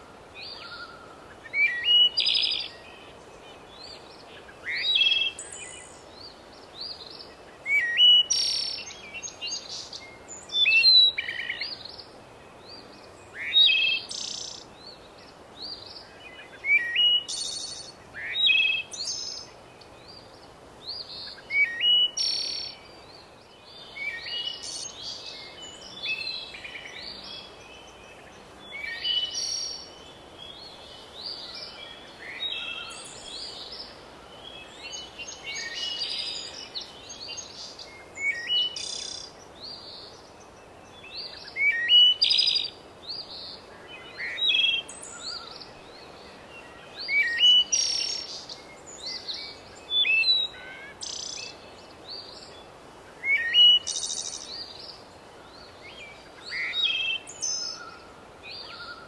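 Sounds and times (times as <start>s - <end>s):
faint steady hiss: 0.0s - 59.0s
songbirds chirping: 0.0s - 59.0s.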